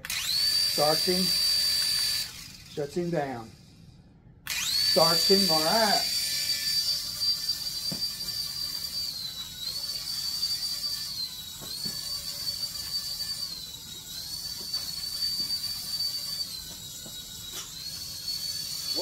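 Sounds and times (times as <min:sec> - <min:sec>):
toy helicopter rotors whining: 0:00.0 - 0:19.0.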